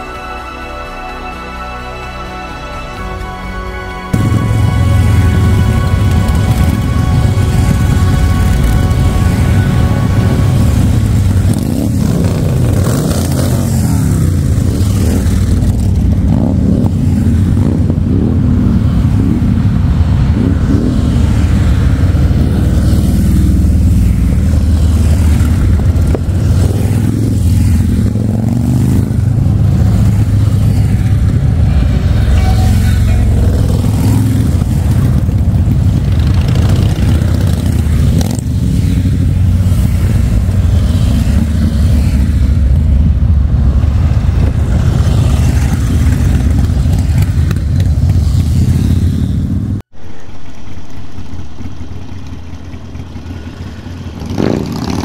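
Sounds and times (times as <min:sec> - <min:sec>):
motorcycle engines revving: 0:04.1 - 0:55.0.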